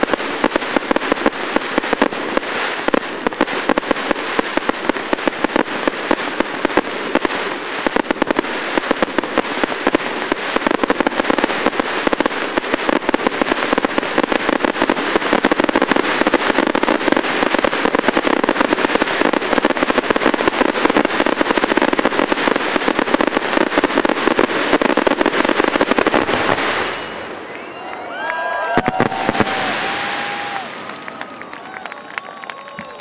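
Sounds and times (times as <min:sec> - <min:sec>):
fireworks bangs and crackles: 0:00.0 - 0:27.8, 0:28.5 - 0:33.0.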